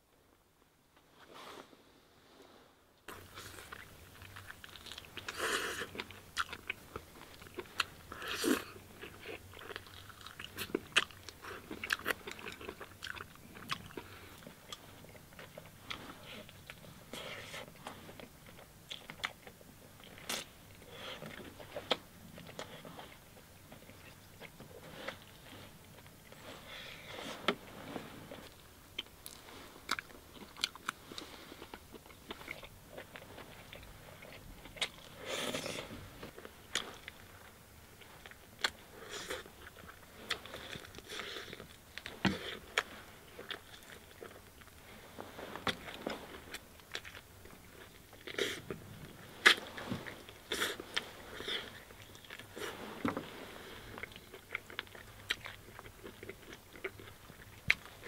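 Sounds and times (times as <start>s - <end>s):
man chewing chicken: 3.1s - 58.0s.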